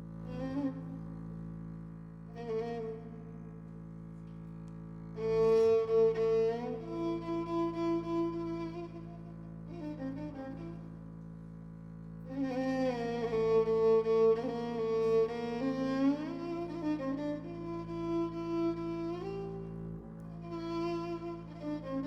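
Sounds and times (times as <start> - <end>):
violin melody with sliding notes: 0.0 - 1.2, 2.3 - 3.4, 5.1 - 11.0, 12.2 - 22.0.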